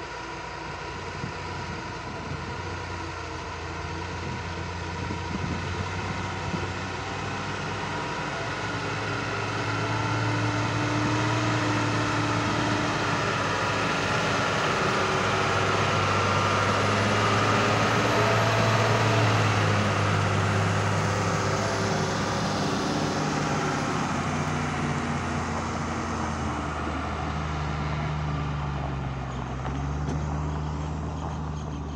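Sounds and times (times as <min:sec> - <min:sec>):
diesel truck driving by: 0:00.0 - 0:31.9.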